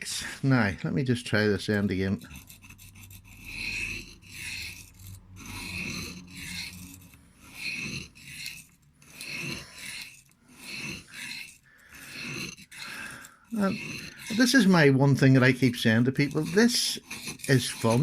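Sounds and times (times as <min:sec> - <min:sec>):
knife rasping on sharpening stone: 0:01.7 - 0:18.0.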